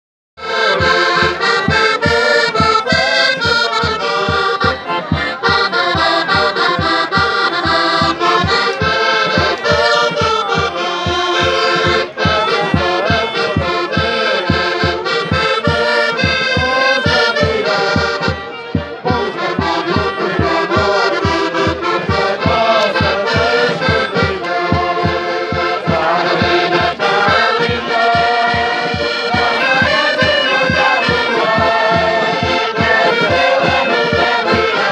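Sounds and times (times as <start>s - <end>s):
accordion and melodicas playing: 0.4s - 34.9s
steady low beat: 0.4s - 34.9s.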